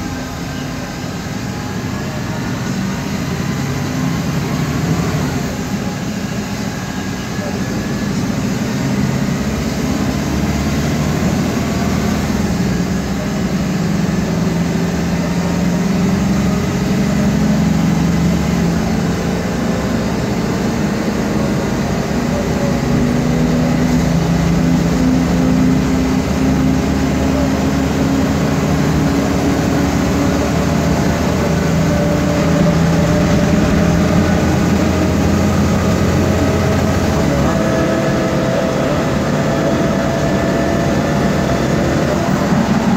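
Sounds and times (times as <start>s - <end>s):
bus engine and drivetrain noise: 0.0s - 42.9s
whining differential: 0.0s - 42.9s.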